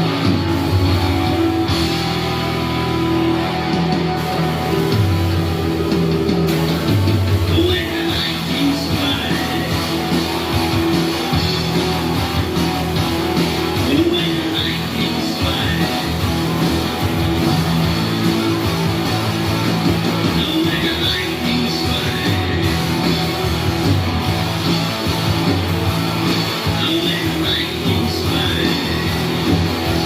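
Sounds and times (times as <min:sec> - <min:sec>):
rock music with guitar: 0:00.0 - 0:30.0.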